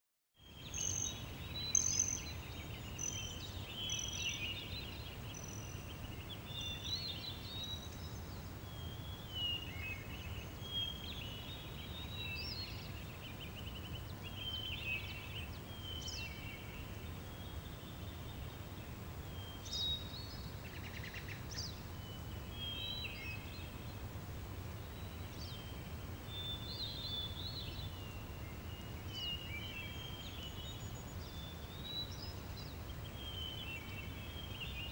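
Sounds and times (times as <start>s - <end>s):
songbirds chirping and trilling: 0.4s - 34.9s.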